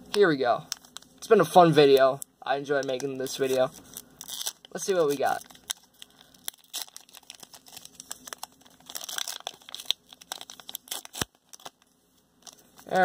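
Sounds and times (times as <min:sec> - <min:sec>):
plastic wrapper crinkling and tearing: 0:00.7 - 0:13.0.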